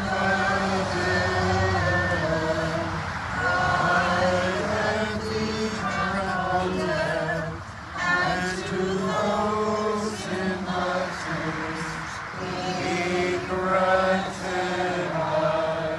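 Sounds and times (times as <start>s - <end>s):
choir chanting unaccompanied: 0.0s - 15.9s.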